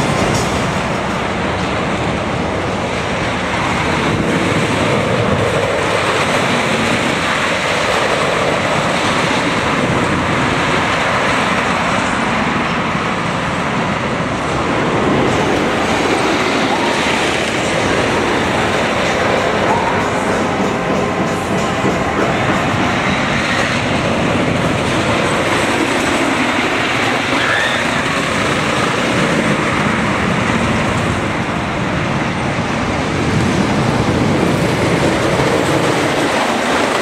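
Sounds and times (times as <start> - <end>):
roller coaster rumbling on wooden track: 0.0 - 37.0.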